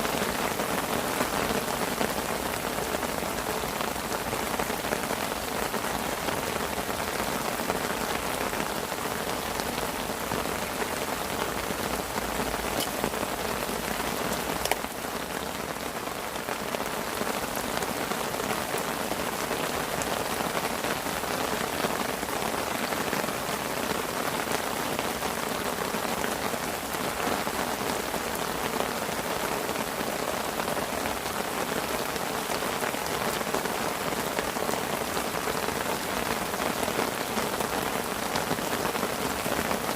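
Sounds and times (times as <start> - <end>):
heavy rain on a parasol: 0.0 - 39.9.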